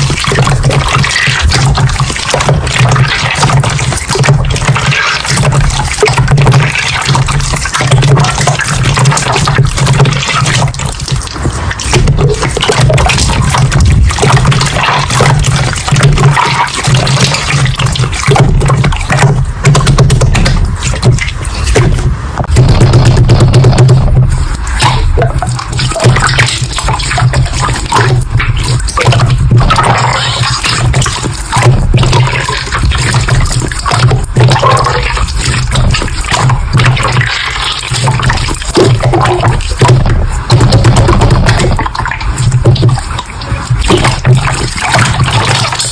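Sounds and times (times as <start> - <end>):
slime squelching and popping: 0.0 - 45.9.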